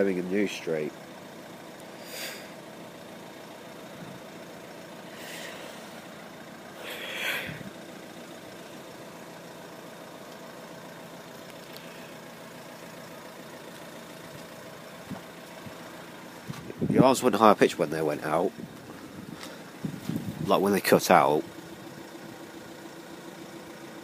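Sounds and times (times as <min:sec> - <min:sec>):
vehicles idling hum: 0:00.0 - 0:24.0.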